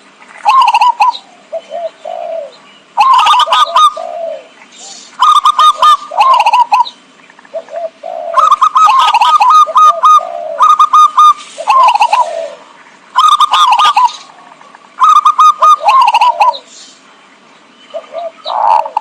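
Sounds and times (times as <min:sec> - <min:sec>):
dove cooing: 0:00.4 - 0:16.7, 0:17.9 - 0:19.0.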